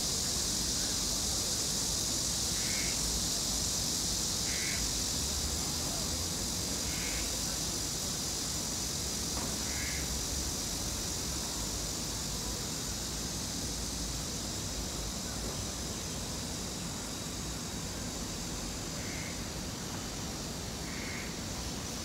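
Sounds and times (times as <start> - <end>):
high hiss: 0.0 - 22.0.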